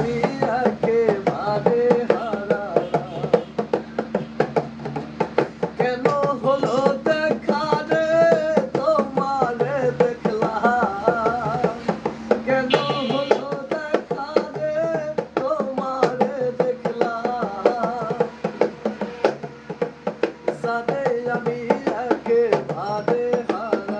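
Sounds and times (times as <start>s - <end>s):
hand drum strokes: 0.0s - 23.9s.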